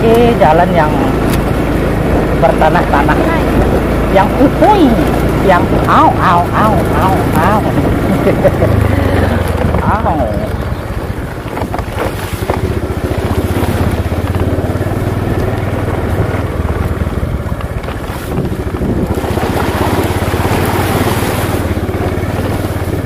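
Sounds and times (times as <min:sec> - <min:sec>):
small motorcycle engine running: 0:00.0 - 0:23.0
wind buffeting microphone: 0:00.0 - 0:23.0.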